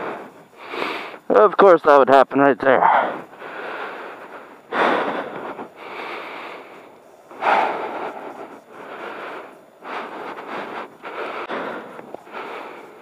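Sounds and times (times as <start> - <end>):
heavy breathing into microphone: 0.0 - 1.3, 2.8 - 13.0.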